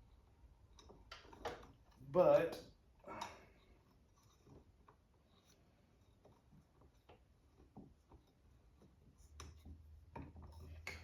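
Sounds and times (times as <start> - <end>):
faint clicks and taps of handling: 0.1 - 11.0.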